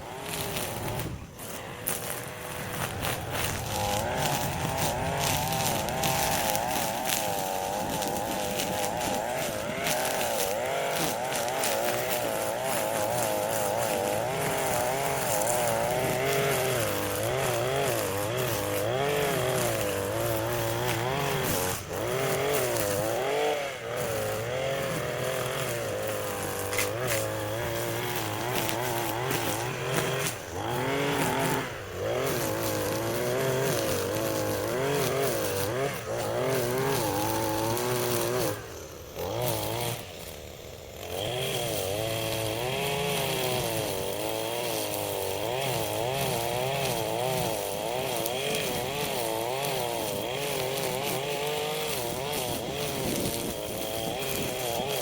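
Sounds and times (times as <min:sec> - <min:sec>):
small gas engine running: 0:00.0 - 0:55.0.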